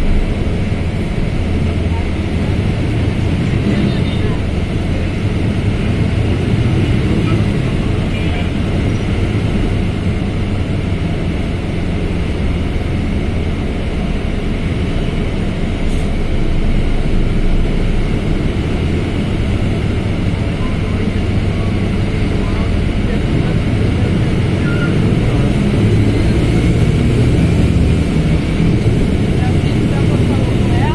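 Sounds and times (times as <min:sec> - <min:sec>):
bus diesel engine running: 0:00.0 - 0:30.9.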